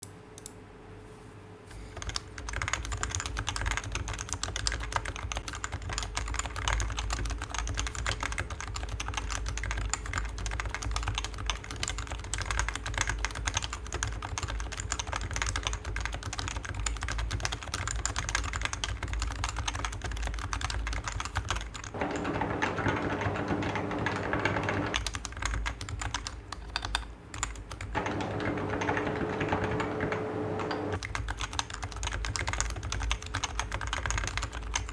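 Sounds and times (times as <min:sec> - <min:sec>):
fast typing on keyboard: 0:01.8 - 0:34.9.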